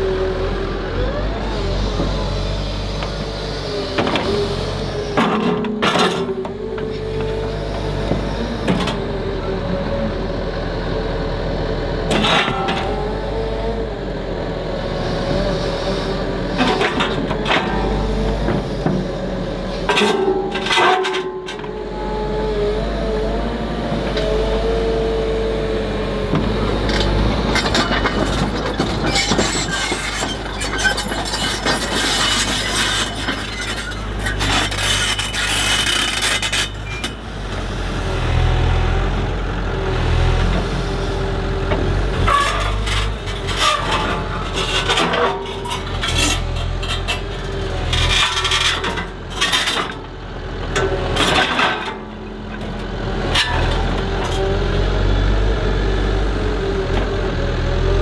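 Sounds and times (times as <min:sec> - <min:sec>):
engine whine: 0:00.0 - 0:58.0
excavator engine drone: 0:00.0 - 0:58.0.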